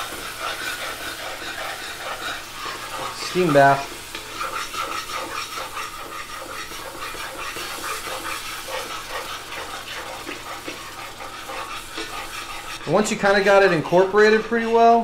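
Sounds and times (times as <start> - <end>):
liquid sizzling in a hot pan: 0.0 - 14.4
spoon scraping a pan: 0.0 - 14.8.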